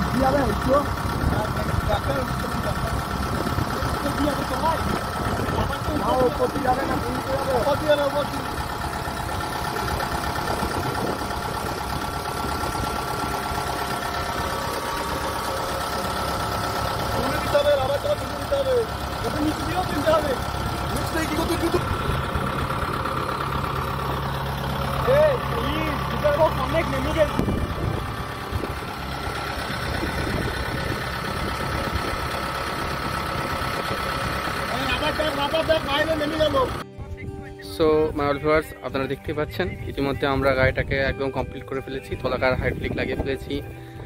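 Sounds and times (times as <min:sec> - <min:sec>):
diesel engine drone: 0:00.0 - 0:44.0.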